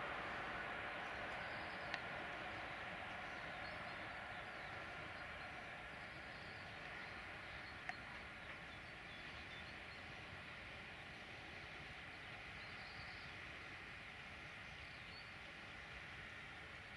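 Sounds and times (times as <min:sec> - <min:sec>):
distant electric train rumble: 0:00.0 - 0:16.9.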